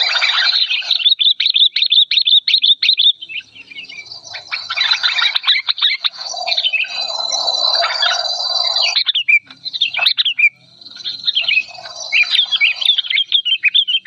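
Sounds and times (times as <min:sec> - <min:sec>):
bird chattering calls: 0:00.0 - 0:14.0.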